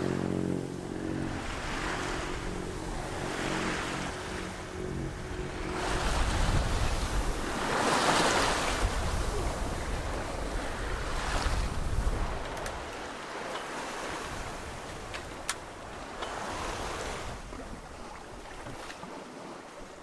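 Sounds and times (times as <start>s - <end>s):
wind on microphone: 0.0s - 19.2s
boat engine running: 0.0s - 20.0s
waves rushing along hull: 0.0s - 20.0s.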